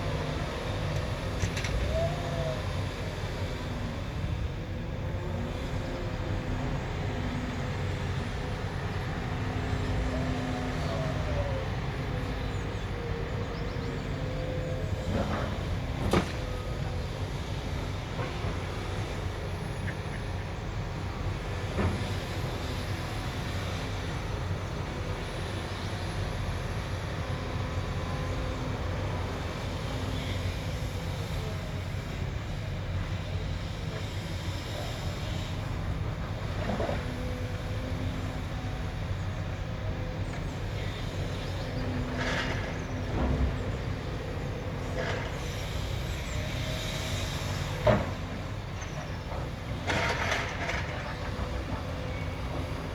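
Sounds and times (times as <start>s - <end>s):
heavy machine engine rumble: 0.0s - 52.9s.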